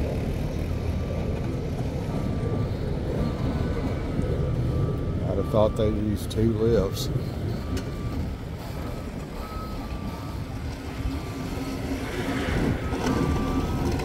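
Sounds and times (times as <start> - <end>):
forklift engine running: 0.0 - 14.0
reversing alarm beeping: 0.0 - 14.0.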